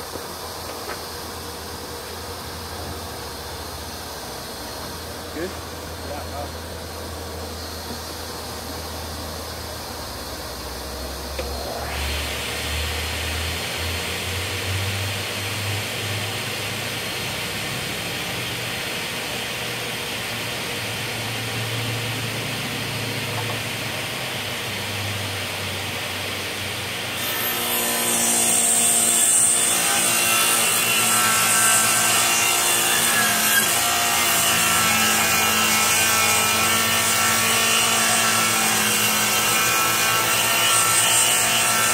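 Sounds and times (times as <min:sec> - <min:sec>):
table saw cutting wood: 0:00.0 - 0:41.9.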